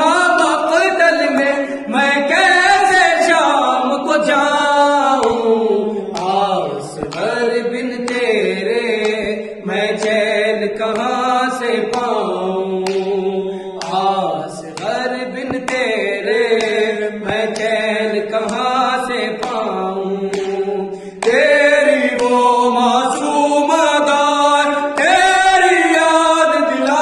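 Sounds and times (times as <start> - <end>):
man singing a lament: 0.0 - 27.0.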